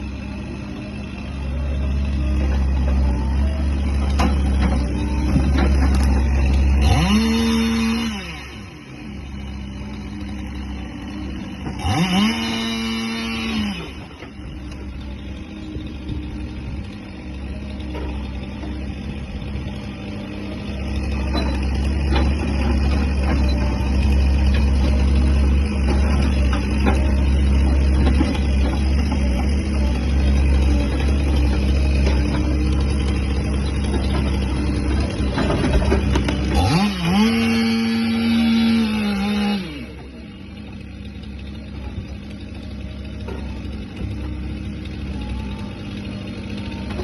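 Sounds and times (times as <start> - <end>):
diesel engine revving: 0.0 - 47.0.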